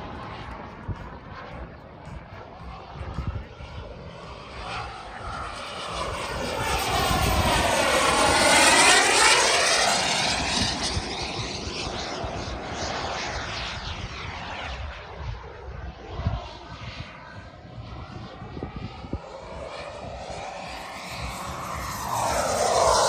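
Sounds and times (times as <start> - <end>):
model jet turbine rushing past: 0.0 - 23.0.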